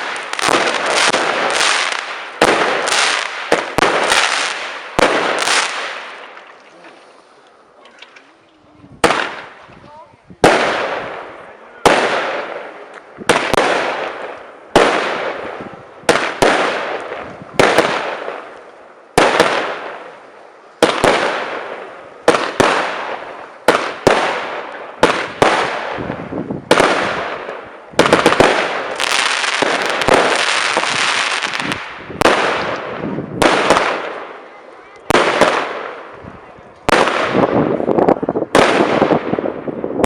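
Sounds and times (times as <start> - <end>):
fireworks bangs: 0.0 - 8.3, 8.9 - 40.0
fireworks crackling: 0.0 - 40.0.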